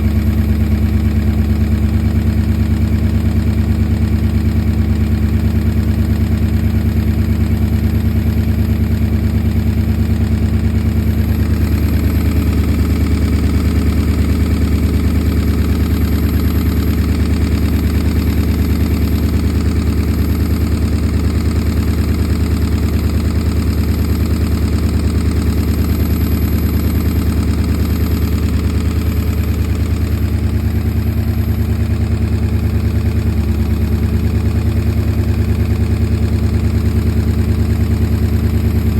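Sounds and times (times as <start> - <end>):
engine idling: 0.0 - 38.9
engine knocking: 0.0 - 38.9.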